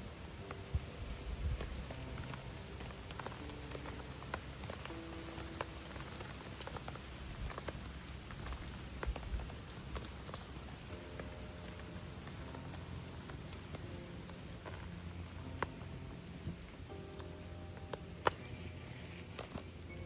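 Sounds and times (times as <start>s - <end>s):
campfire crackling and popping: 0.0s - 20.0s
steady rain falling: 0.0s - 20.0s.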